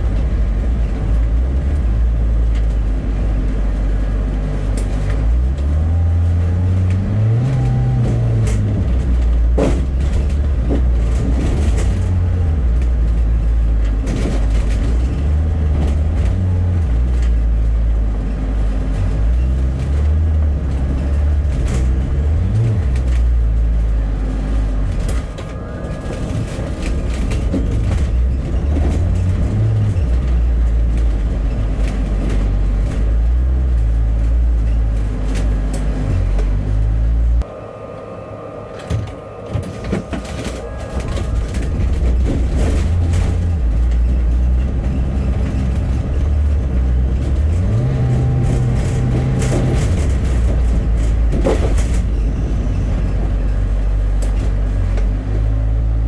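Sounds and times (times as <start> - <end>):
bus engine and road rumble: 0.0 - 56.0
knocks and rattles: 4.5 - 37.4, 38.9 - 56.0.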